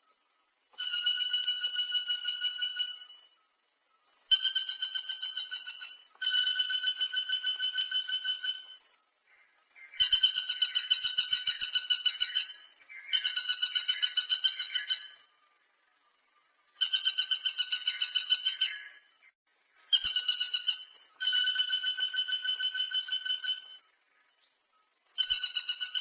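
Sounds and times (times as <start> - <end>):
woodpecker calling: 0.7 - 3.4, 4.0 - 15.4, 16.7 - 26.0.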